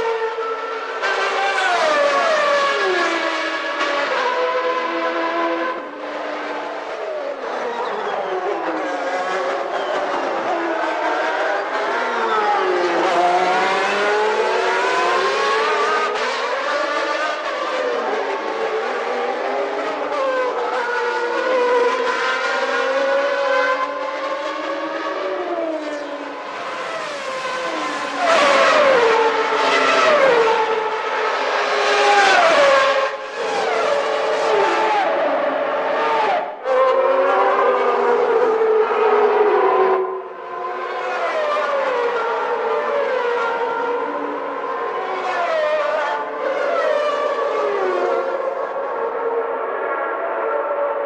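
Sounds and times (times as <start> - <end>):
racing car engines at high revs: 0.0 - 51.0.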